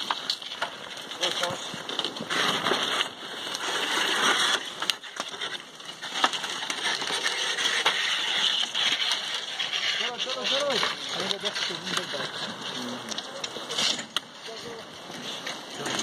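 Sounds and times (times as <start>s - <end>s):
crunching over ice and snow: 0.0s - 16.0s
ice crackling: 0.0s - 16.0s.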